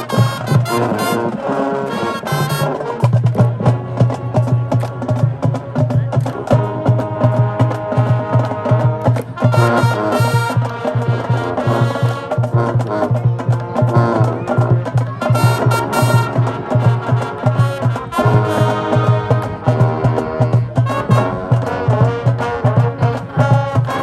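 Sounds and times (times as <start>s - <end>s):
brass chords: 0.0s - 24.0s
steady drum beat: 0.0s - 24.0s.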